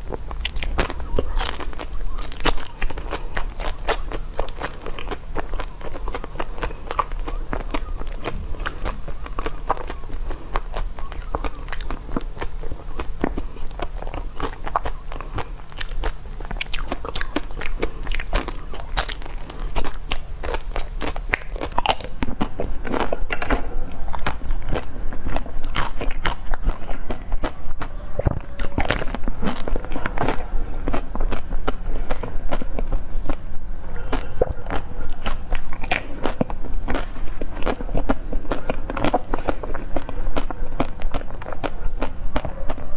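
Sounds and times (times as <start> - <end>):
crunching and chewing frozen treats: 0.0 - 42.9.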